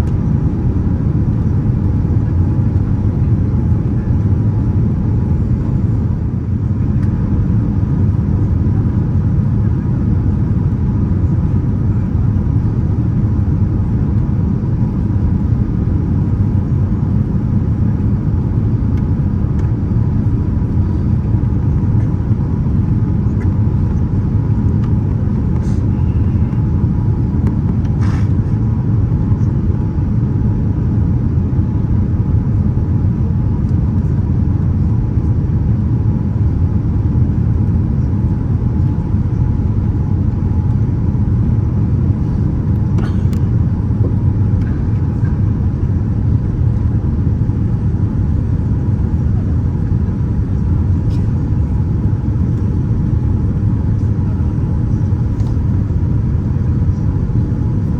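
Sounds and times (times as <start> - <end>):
faint steady hum: 0.0 - 35.0, 35.6 - 57.9
airliner cabin rumble: 0.0 - 57.9.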